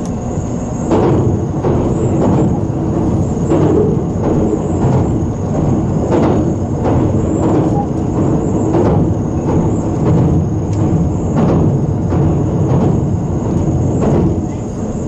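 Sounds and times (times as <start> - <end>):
train wheels rumbling on rail: 0.0 - 15.0
wheels clacking over rail joints: 0.9 - 15.0.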